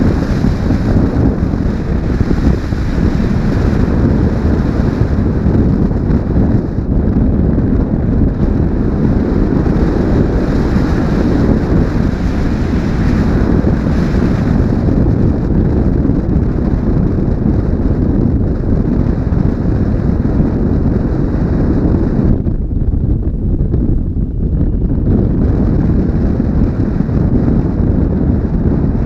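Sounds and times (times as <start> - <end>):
motorcycle road and engine noise: 0.0 - 29.0
wind buffeting microphone: 0.0 - 29.0.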